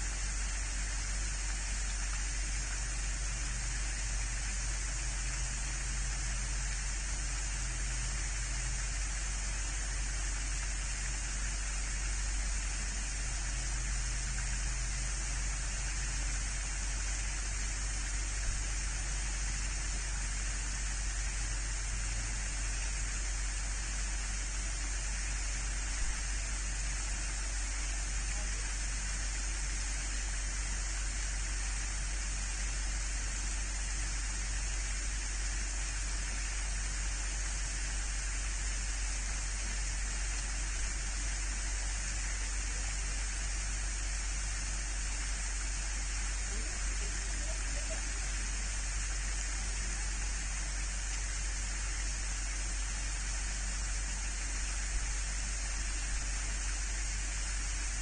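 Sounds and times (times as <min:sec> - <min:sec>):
steady hiss with low hum: 0:00.0 - 0:58.0.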